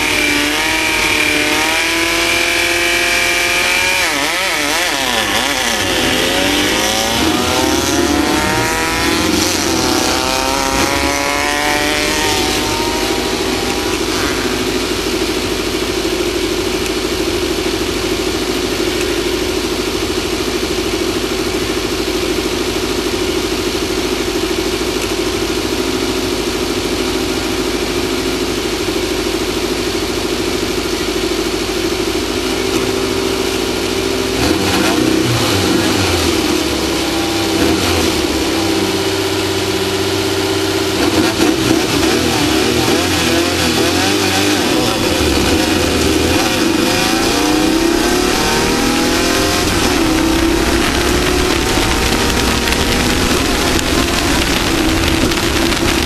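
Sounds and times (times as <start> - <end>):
race vehicle engine revving: 0.0 - 56.0.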